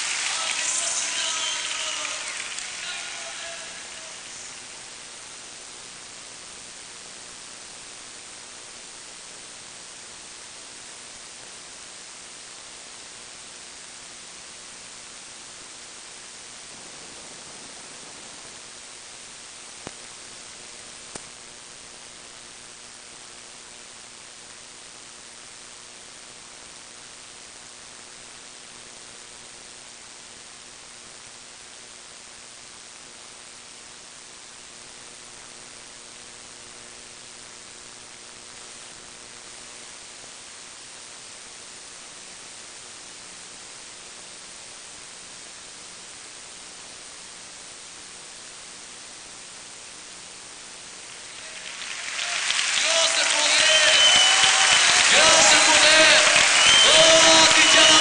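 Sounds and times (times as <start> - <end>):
faint hum: 0.0 - 58.0
recording hiss: 0.0 - 58.0.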